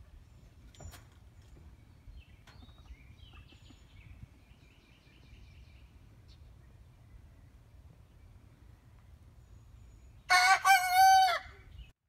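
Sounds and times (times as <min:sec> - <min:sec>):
low outdoor rumble: 0:00.0 - 0:10.3.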